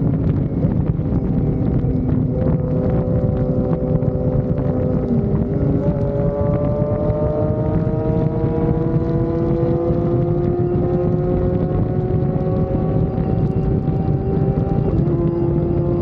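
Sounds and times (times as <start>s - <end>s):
motorcycle engine accelerating: 0.0s - 16.0s
wind buffeting microphone: 0.0s - 16.0s.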